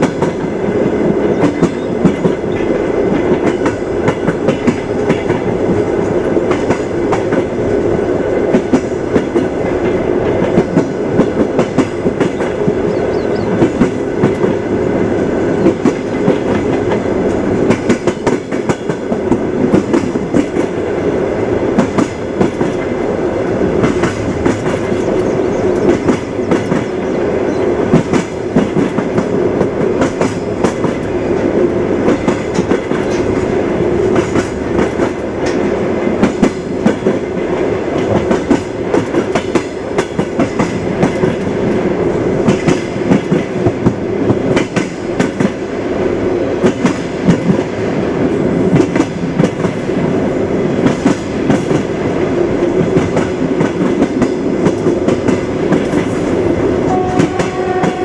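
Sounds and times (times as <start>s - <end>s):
train wheels clattering over rail joints: 0.0s - 45.8s, 46.6s - 58.0s
train rumble: 0.0s - 58.0s.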